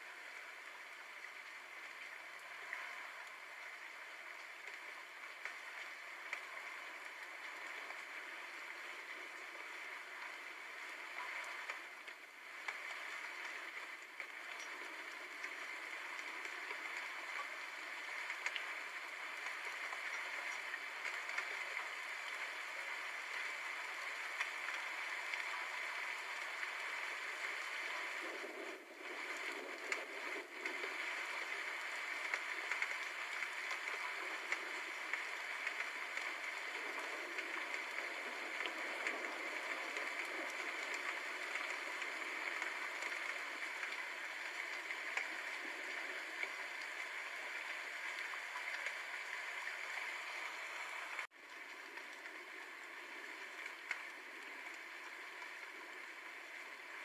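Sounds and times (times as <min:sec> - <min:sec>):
rain drops spattering: 0:00.0 - 0:57.0
steady rain hiss: 0:00.0 - 0:57.0.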